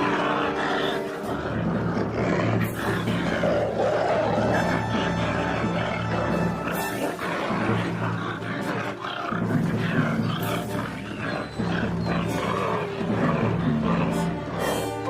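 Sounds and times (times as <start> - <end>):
dramatic background music: 0.0 - 15.0
wild animal roaring and growling: 0.0 - 15.0.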